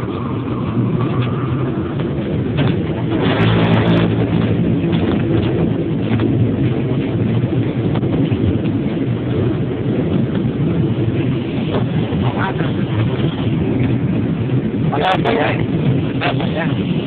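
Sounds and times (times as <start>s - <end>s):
low mechanical rumble: 0.0s - 17.0s
wind buffeting microphone: 0.0s - 17.0s.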